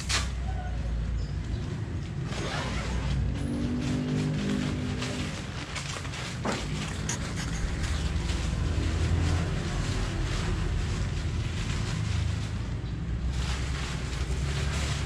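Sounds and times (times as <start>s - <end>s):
tent fabric rustling: 1.6s - 15.0s.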